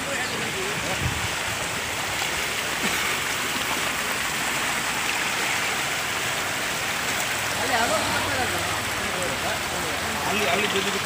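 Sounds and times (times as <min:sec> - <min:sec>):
heavy rain: 0:00.0 - 0:11.0
running floodwater: 0:00.0 - 0:11.0.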